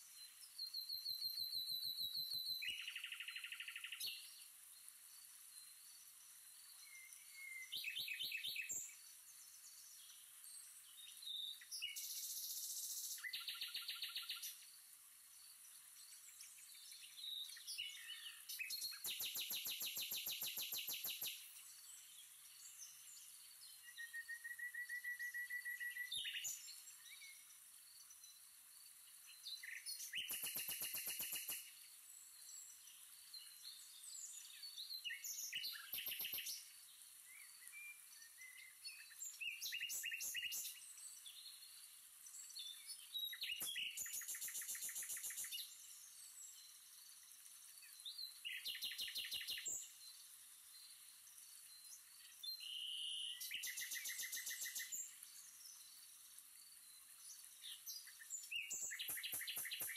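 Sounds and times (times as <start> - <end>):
faint high-pitched hiss: 0.0 - 59.9.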